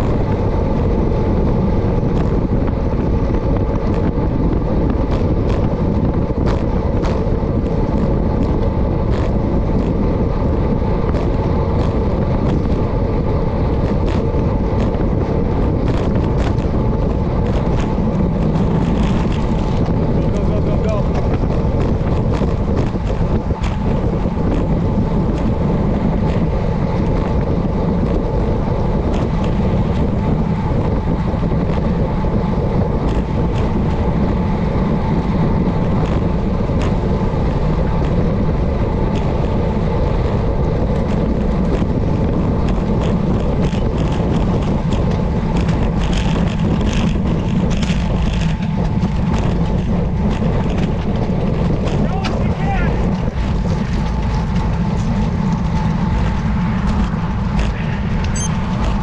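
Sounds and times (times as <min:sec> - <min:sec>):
bike tyres on rough pavement: 0:00.0 - 0:59.0
wind buffeting microphone: 0:00.0 - 0:59.0.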